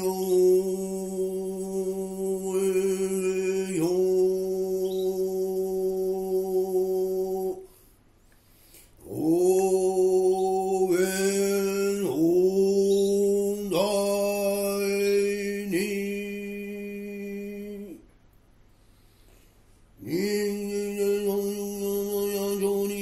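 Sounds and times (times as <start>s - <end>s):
single voice chanting in monotone: 0.0s - 8.0s, 9.0s - 18.1s, 20.0s - 23.0s.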